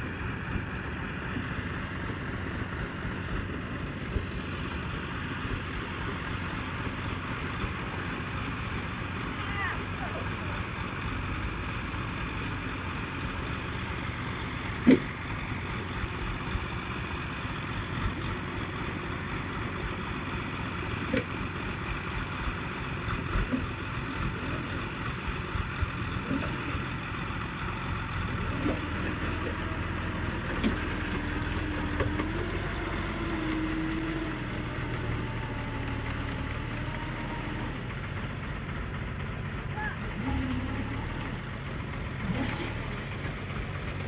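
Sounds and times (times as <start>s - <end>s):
heavy vehicle engine running: 0.0s - 44.0s.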